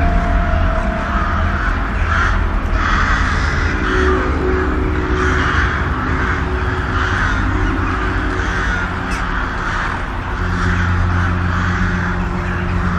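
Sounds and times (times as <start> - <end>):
crows cawing: 0.0 - 12.9
low droning hum: 0.0 - 12.9.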